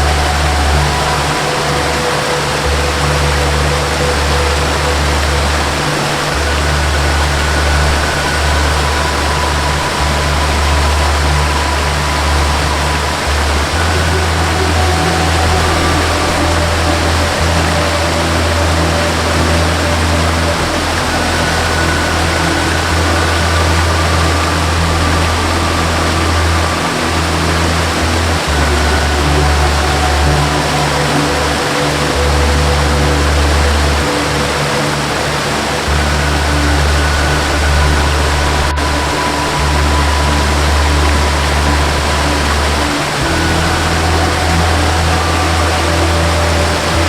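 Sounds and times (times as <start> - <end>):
deep sustained bass note: 0.0 - 47.0
faint high held notes: 0.0 - 47.0
waterfall rushing: 0.0 - 47.0.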